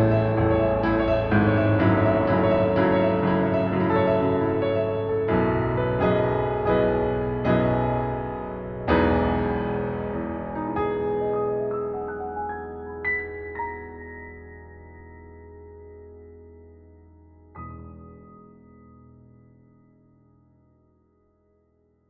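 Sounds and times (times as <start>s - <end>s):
solo piano chords: 0.0s - 22.0s.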